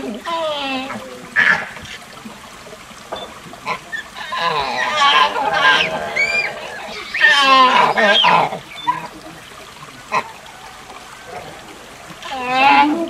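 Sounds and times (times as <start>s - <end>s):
monkey calls: 0.0s - 2.1s, 3.2s - 13.0s.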